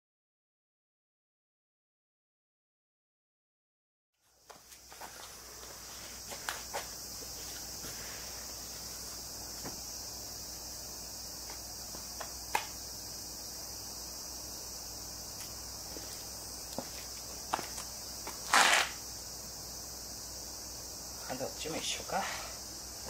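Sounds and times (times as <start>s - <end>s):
insects chirring: 4.2s - 23.0s.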